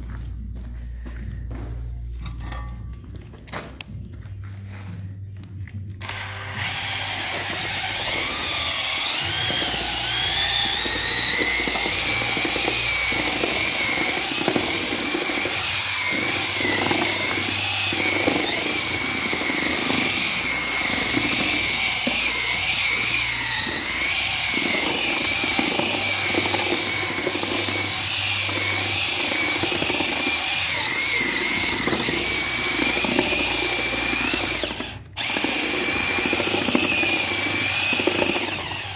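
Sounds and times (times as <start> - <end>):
drill motor whining: 6.0 - 38.9
paste scraping and sloshing: 6.2 - 38.8.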